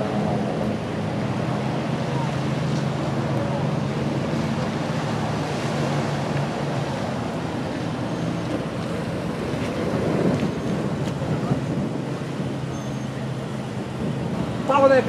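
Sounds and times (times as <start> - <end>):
low engine hum: 0.0 - 15.0
wind rushing over microphone: 0.0 - 15.0.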